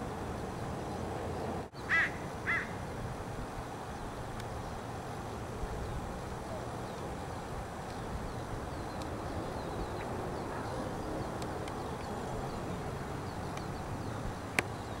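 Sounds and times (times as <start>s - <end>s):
background noise: 0.0s - 15.0s.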